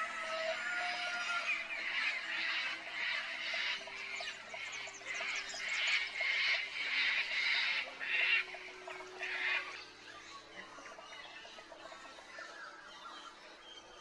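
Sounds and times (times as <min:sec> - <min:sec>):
birds calling harshly: 0:00.0 - 0:14.0.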